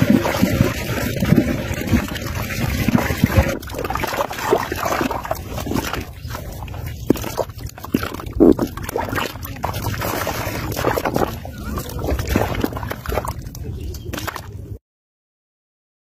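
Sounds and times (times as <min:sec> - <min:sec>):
fish splashing in water: 0:00.0 - 0:14.8.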